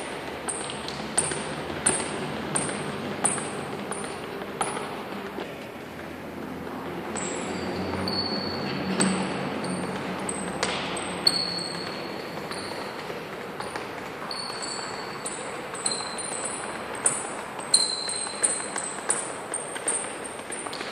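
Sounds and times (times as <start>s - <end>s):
sneakers squeaking on gym floor: 0.0s - 5.8s, 6.4s - 20.9s.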